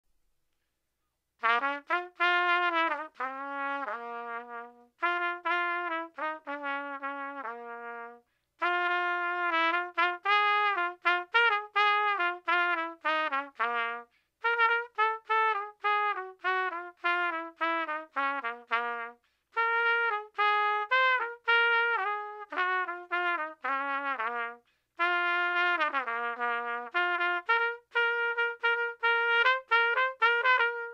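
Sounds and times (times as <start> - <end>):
solo trumpet melody: 1.4 - 30.9.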